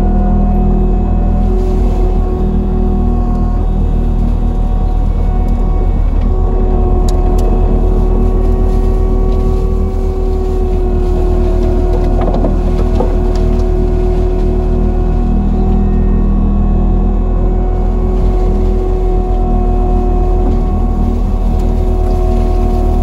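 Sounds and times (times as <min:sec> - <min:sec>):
diesel engine running under load: 0:00.0 - 0:23.0
steady whine: 0:00.0 - 0:23.0
mulcher head grinding brush: 0:01.2 - 0:16.6, 0:17.3 - 0:23.0.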